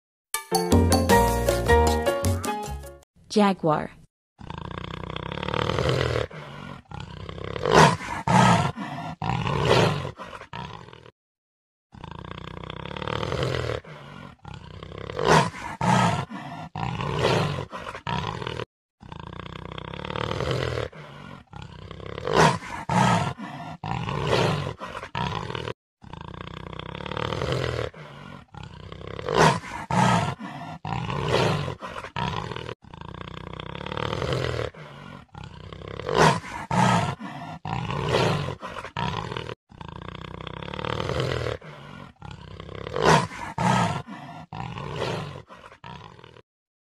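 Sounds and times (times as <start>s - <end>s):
jaguar growling and roaring: 4.4s - 11.1s, 11.9s - 46.4s.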